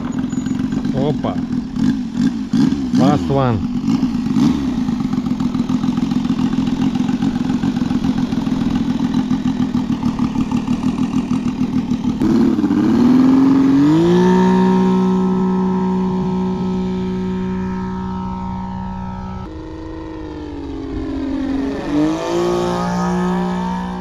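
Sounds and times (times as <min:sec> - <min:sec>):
model plane engine running: 0:00.0 - 0:24.0.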